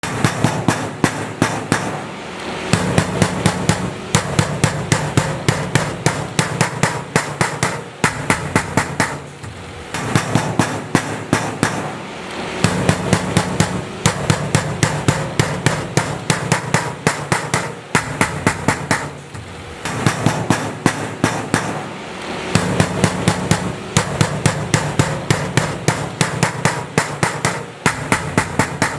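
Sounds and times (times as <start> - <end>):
hammer striking: 0.0 - 28.9.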